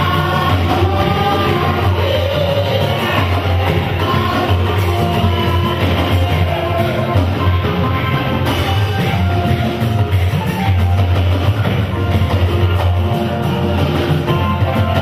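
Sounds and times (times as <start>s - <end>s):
loud band music: 0.0s - 15.0s.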